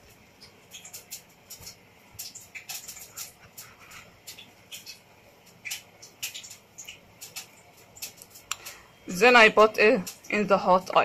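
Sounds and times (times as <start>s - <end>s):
chicken pressed in dry breading: 0.0s - 9.4s.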